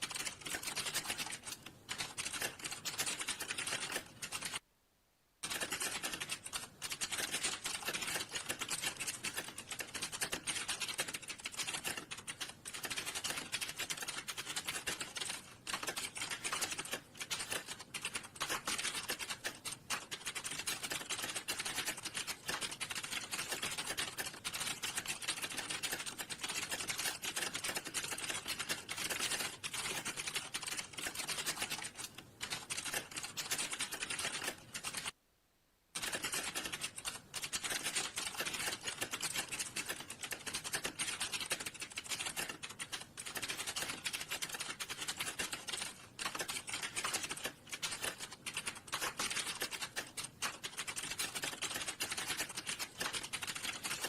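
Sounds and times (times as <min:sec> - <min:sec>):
fast typing on a keyboard: 0:00.0 - 0:04.6, 0:05.4 - 0:35.2, 0:36.0 - 0:54.0.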